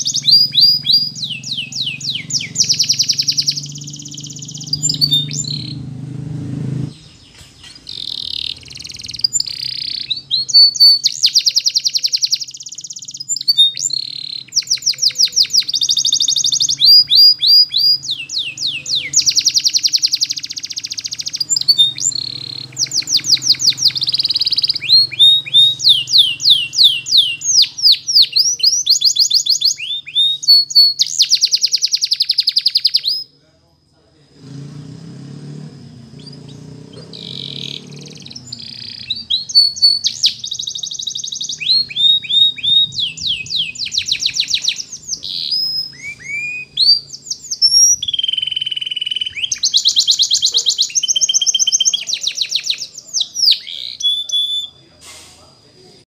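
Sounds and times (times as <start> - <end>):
canary singing rapid trills: 0.0 - 33.4, 35.6 - 55.0.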